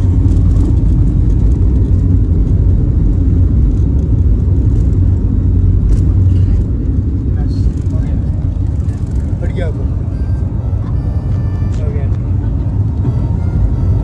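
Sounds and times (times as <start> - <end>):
airliner cabin rumble on runway: 0.0 - 14.0.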